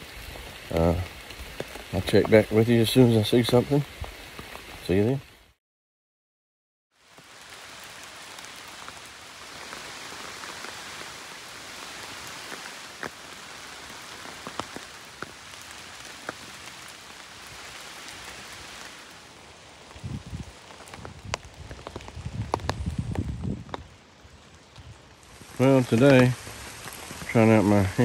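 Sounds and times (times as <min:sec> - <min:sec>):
hard rain hissing: 0:00.0 - 0:05.6, 0:06.9 - 0:28.0.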